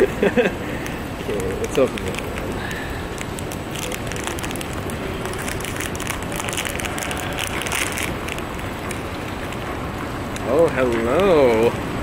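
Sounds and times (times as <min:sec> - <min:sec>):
plastic packet crinkling: 0:00.0 - 0:11.7
steady background noise: 0:00.0 - 0:12.0.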